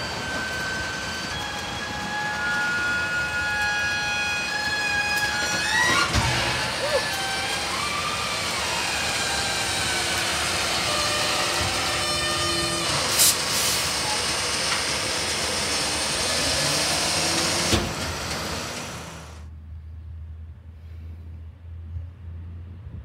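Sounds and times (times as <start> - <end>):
garbage truck engine and hydraulics: 0.0 - 23.0.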